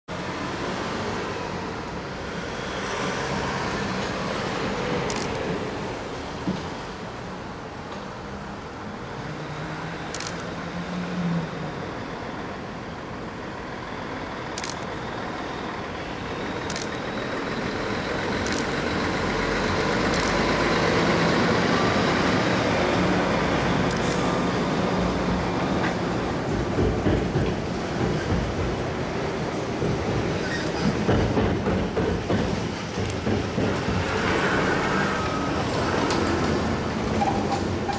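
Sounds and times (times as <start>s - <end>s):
truck engine and tyre rumble: 0.1s - 37.9s.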